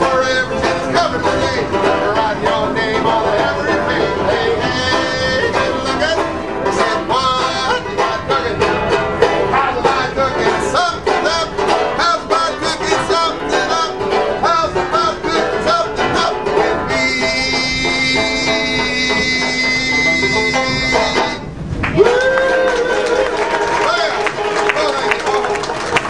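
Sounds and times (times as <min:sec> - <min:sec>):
bluegrass plucked string music: 0:00.0 - 0:21.7, 0:23.9 - 0:26.0.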